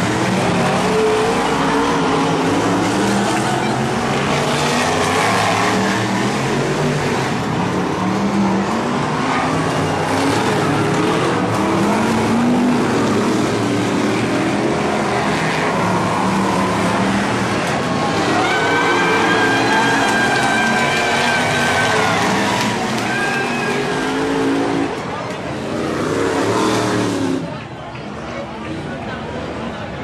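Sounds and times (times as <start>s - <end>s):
race car engines racing past: 0.0s - 30.0s.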